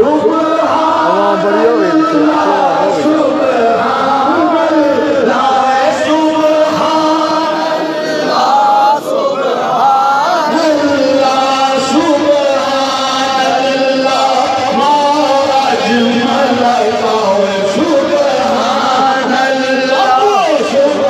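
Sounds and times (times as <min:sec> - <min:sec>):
man chanting into a microphone: 0:00.0 - 0:21.0.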